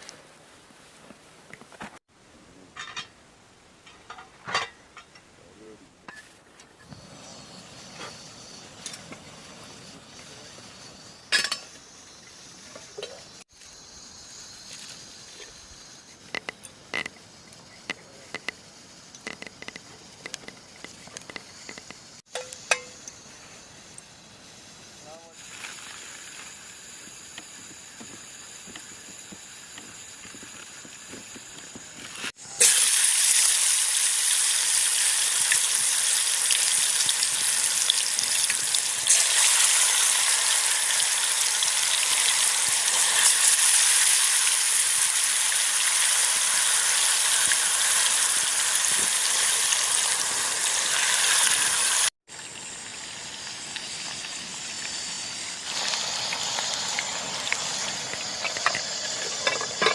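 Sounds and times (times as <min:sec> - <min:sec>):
faint hiss: 0:00.0 - 0:59.9
loud steady hiss: 0:04.8 - 0:59.9.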